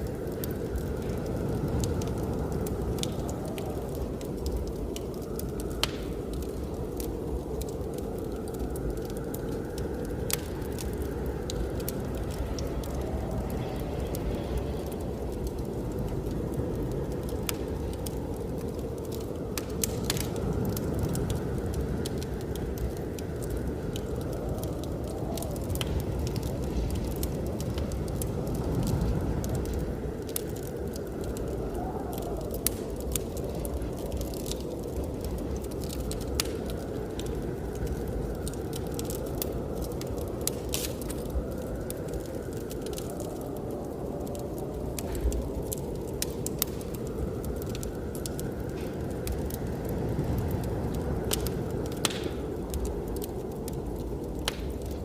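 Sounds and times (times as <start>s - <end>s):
blizzard wind rushing: 0.0s - 55.0s
wood fire crackling and popping: 0.0s - 55.0s.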